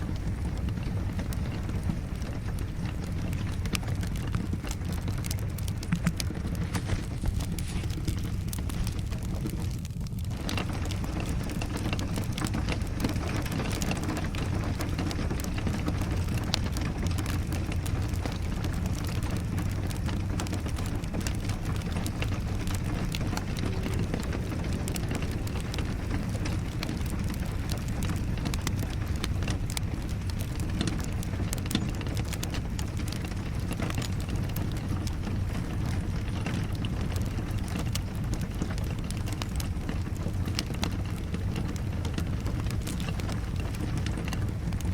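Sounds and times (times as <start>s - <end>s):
steady rain: 0.0s - 44.9s
wood fire crackling: 0.0s - 44.9s.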